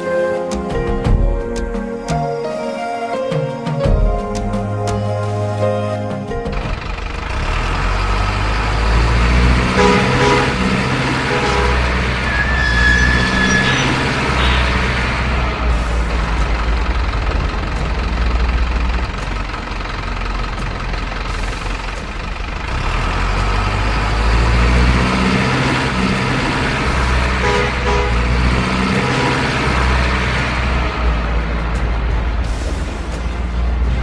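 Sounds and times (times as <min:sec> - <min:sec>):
truck engine low rumble: 0:03.4 - 0:34.0.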